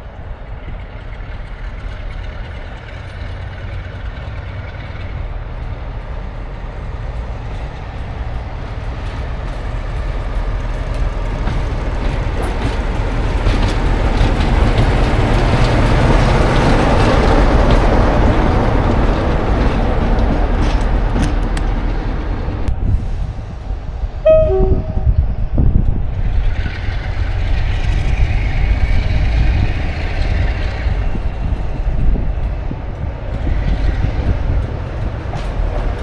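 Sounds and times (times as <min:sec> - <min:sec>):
diesel train engine rumble: 0:00.0 - 0:36.0.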